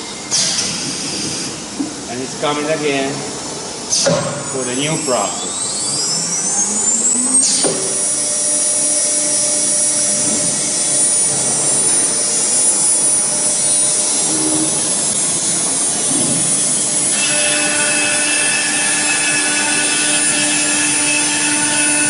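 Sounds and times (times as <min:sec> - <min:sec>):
router spindle whining: 0:03.9 - 0:22.0.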